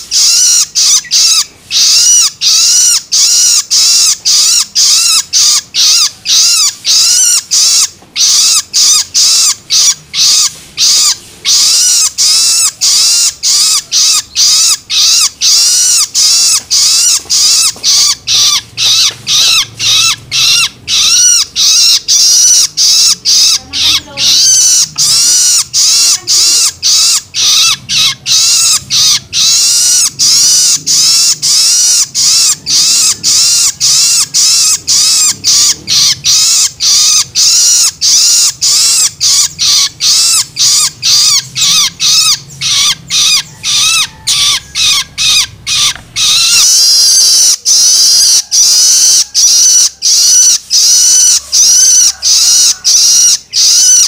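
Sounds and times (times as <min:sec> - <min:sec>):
young bird harsh begging calls: 0:00.0 - 0:54.0.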